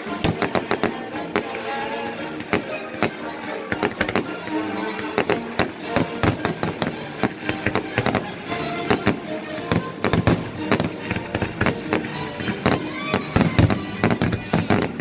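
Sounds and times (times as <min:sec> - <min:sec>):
fireworks bangs and crackles: 0:00.0 - 0:15.0
fireworks rumble: 0:00.0 - 0:15.0.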